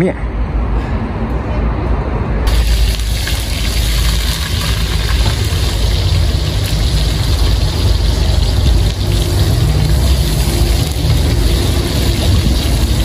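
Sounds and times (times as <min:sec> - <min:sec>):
egg sizzling in oil: 0:02.5 - 0:13.0.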